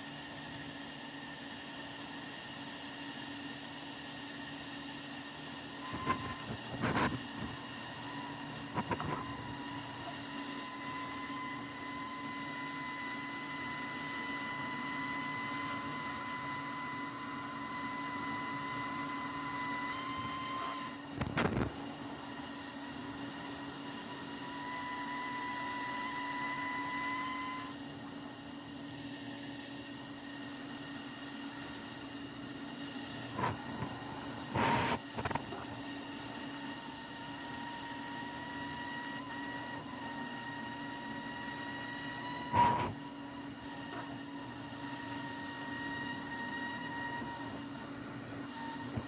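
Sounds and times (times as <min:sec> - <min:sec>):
drilling machine high whine: 0:00.0 - 0:49.0.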